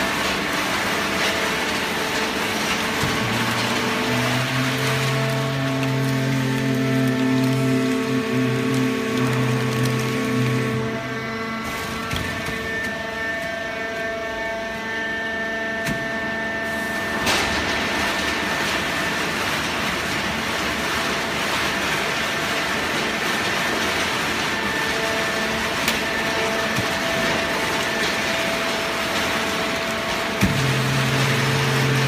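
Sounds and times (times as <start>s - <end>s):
hydraulic whine: 0.0s - 32.0s.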